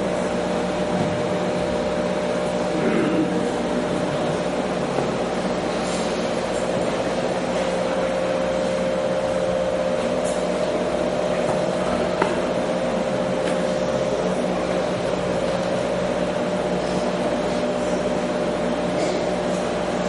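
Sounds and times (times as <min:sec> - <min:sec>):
steady hum and hiss: 0:00.0 - 0:20.0.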